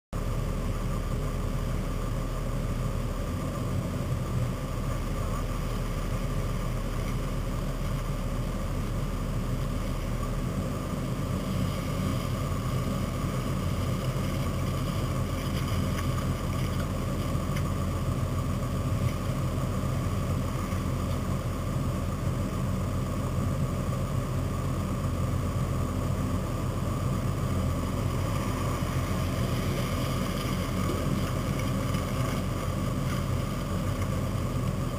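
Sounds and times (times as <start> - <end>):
truck engine idling low: 0.2 - 34.9.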